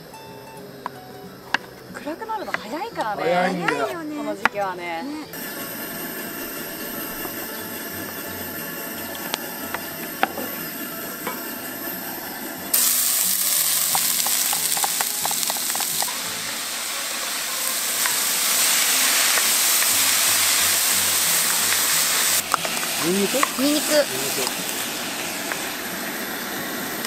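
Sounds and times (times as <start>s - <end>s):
food sizzling in a pot: 5.2s - 27.0s.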